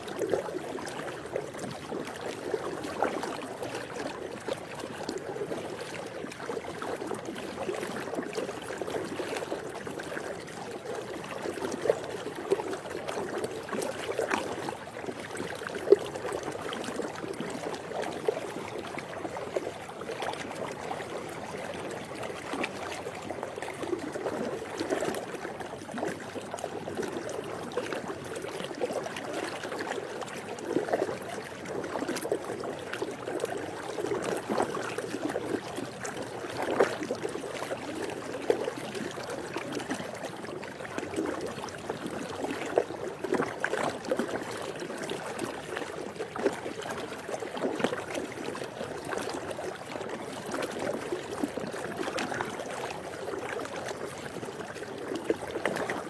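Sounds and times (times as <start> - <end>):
pool water lapping: 0.0 - 56.0.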